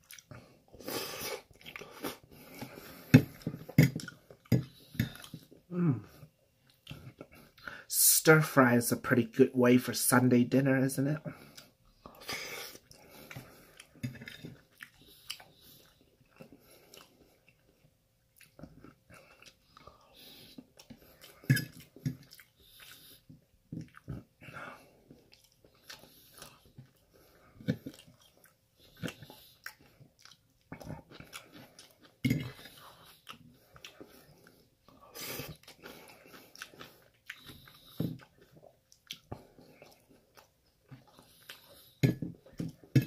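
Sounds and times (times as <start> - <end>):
person chewing food: 0.0 - 7.8, 11.3 - 43.0.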